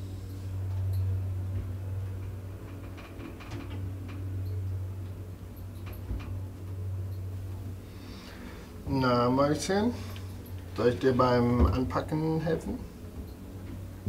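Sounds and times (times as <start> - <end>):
lift cabin humming: 0.0 - 14.0.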